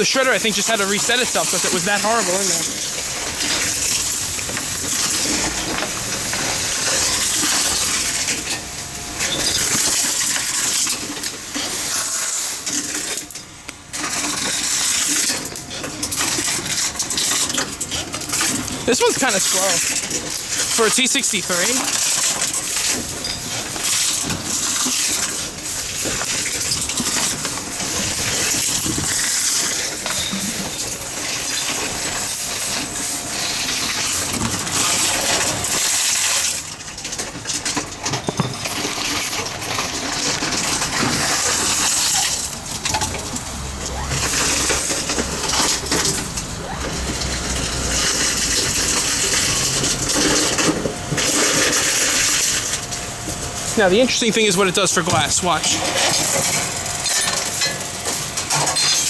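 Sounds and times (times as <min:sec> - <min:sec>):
vending machine hissing and clattering: 0:00.0 - 0:59.0.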